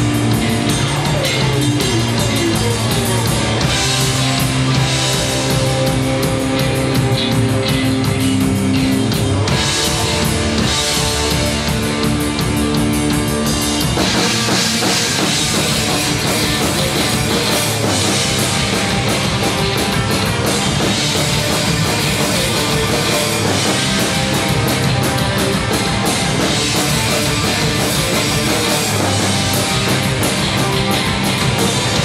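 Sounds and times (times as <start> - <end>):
bass guitar: 0.0 - 32.0
driving drums: 0.0 - 32.0
electric guitars: 0.0 - 32.0.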